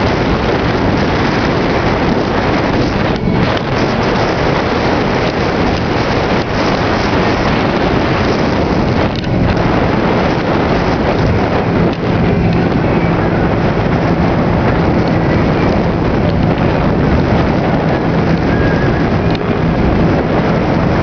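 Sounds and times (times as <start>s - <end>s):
boat engine drone: 0.0s - 21.0s
wind buffeting microphone: 0.0s - 21.0s.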